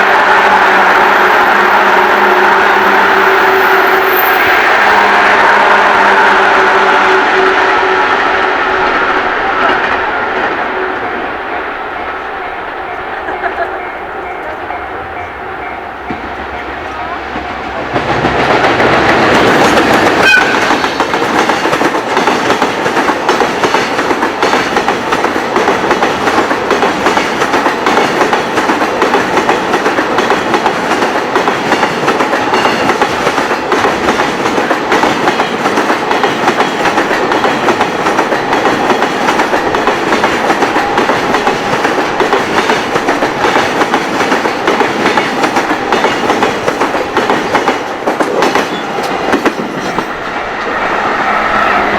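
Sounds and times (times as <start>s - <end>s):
train wheels clattering over rails: 7.1s - 51.9s.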